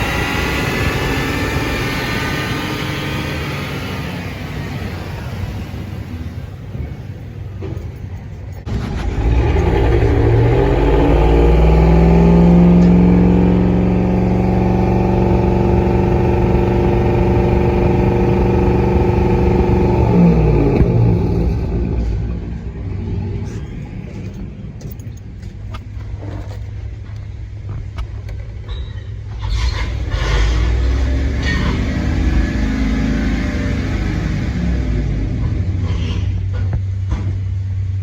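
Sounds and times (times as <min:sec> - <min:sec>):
car engine revving and idling: 0:00.0 - 0:28.6, 0:29.3 - 0:38.0.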